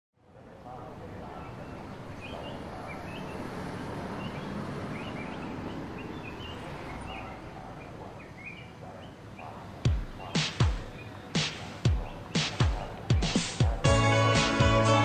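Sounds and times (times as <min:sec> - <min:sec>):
outdoor background noise: 0:00.2 - 0:15.0
small birds chirping: 0:00.4 - 0:14.0.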